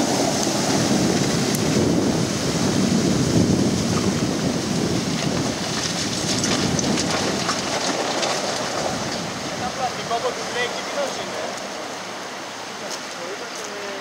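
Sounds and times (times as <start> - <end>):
river water splashing under wheels: 0.0 - 14.0.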